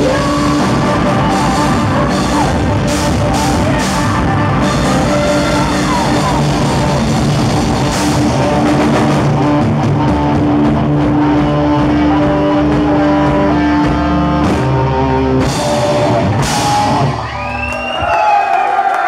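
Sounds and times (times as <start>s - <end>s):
live hard rock band: 0.0s - 18.1s.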